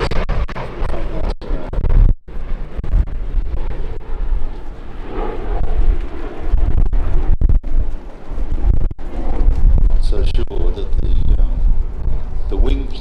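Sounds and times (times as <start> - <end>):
piston aircraft engines droning: 0.0 - 13.0
wind rumbling on microphone: 0.0 - 13.0.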